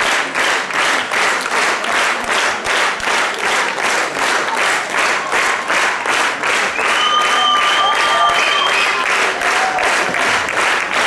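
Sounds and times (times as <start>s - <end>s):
audience clapping in rhythm: 0.0s - 11.0s.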